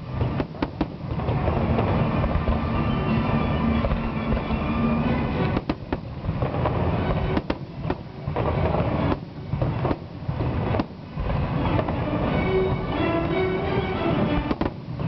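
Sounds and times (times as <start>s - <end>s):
fireworks bangs: 0.0s - 15.0s
rumble of explosions: 0.0s - 15.0s.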